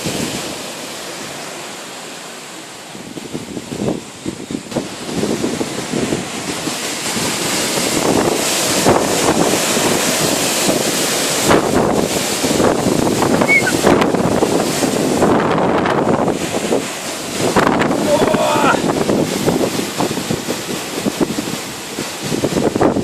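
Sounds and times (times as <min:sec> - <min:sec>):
storm wind gusting: 0:02.8 - 0:23.0.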